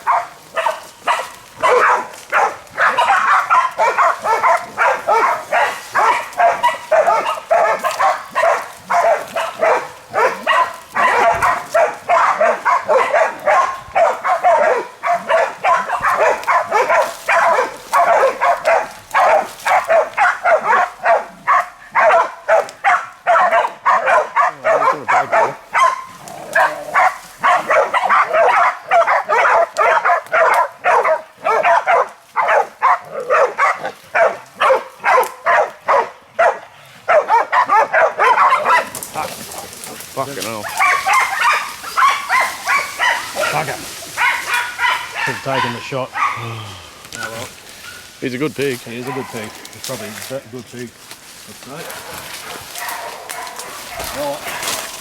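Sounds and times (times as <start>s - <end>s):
dogs barking: 0.0s - 50.4s, 51.6s - 55.0s.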